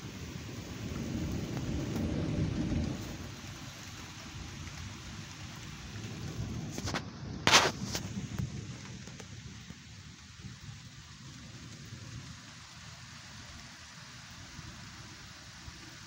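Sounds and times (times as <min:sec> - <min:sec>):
thunder rumbling: 0:00.0 - 0:13.2
steady rain: 0:00.0 - 0:16.0.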